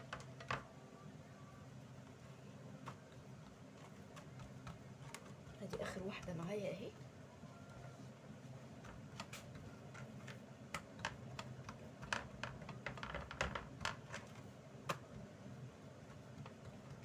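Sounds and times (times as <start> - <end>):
fingers patting dough on plastic: 0.0 - 0.7, 1.9 - 17.0.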